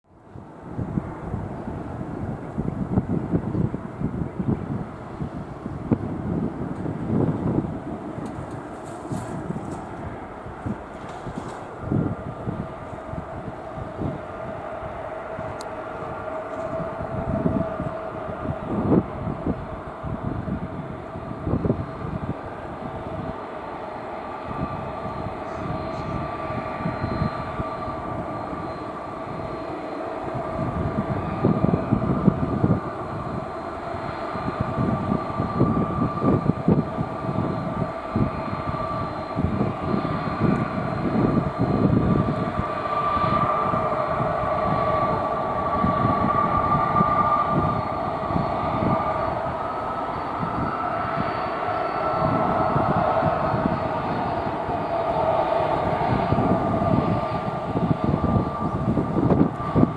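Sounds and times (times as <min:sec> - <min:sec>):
gusty engine rumble: 0:00.0 - 0:59.9
jet engines whining: 0:00.1 - 0:59.9.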